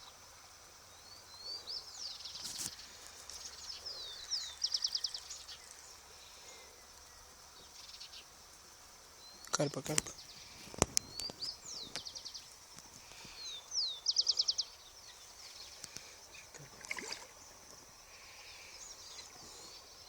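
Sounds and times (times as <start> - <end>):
faint high hiss: 0.0 - 20.0.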